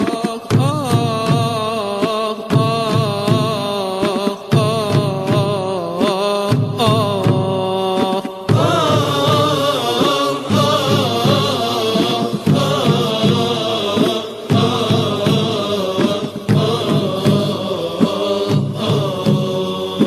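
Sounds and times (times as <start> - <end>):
layered chanting voices: 0.0 - 20.0
regular beat: 0.0 - 20.0.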